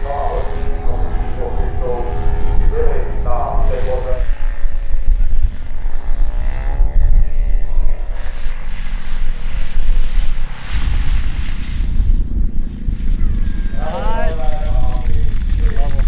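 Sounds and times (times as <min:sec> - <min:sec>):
model plane propeller engine: 0:00.0 - 0:16.0
wind rumble on microphone: 0:00.0 - 0:16.0.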